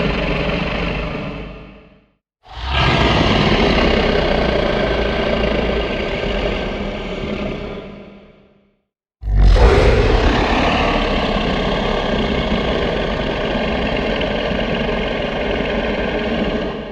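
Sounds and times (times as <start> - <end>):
rough rumbling monster growl: 0.0 - 8.5, 9.2 - 16.9.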